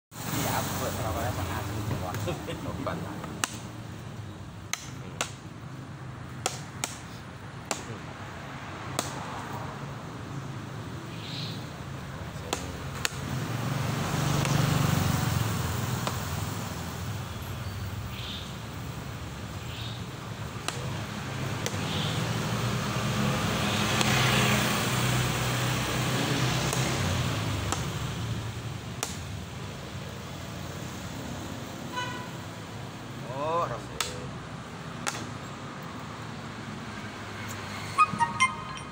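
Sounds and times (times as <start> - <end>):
road traffic passing: 0.1 - 38.9.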